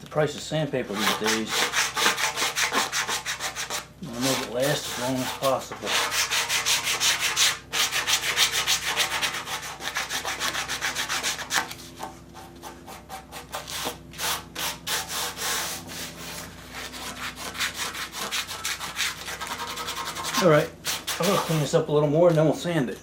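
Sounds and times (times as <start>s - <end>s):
sandpaper scraping on metal: 0.8s - 21.8s.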